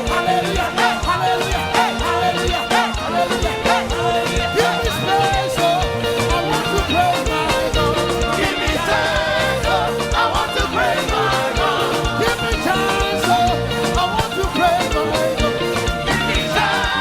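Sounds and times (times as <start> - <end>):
bass line: 0.0 - 17.0
live praise band music: 0.0 - 17.0
people singing: 0.0 - 17.0.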